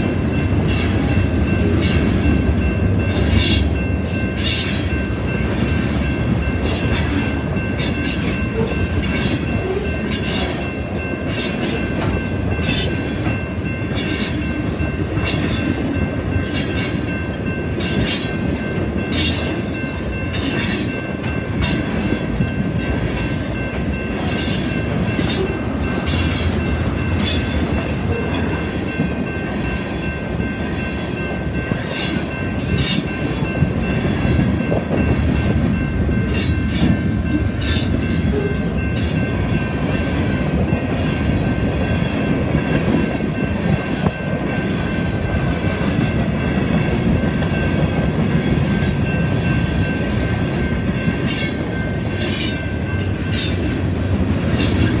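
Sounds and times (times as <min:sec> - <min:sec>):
freight train rumbling past: 0:00.0 - 0:55.0
train wheels clacking on rails: 0:00.0 - 0:55.0.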